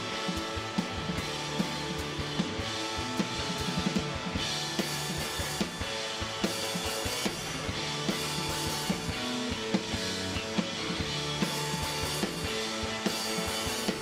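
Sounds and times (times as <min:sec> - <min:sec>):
drum kit beat: 0:00.0 - 0:14.0
electric guitars: 0:00.0 - 0:14.0.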